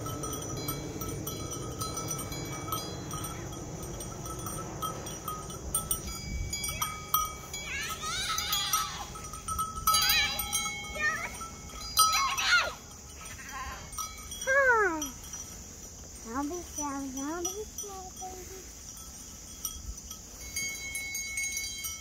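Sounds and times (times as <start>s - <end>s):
sheep bell clinking: 0.0s - 22.0s.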